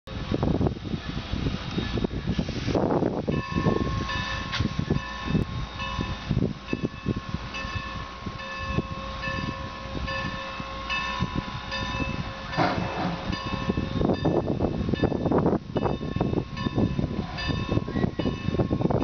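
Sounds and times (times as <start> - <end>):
low train rumble: 0.1 - 19.0
locomotive bell ringing: 3.3 - 19.0.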